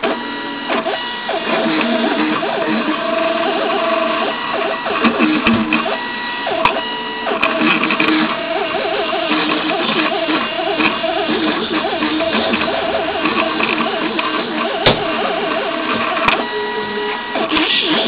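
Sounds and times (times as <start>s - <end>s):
stepper motors whining: 0.2s - 18.0s.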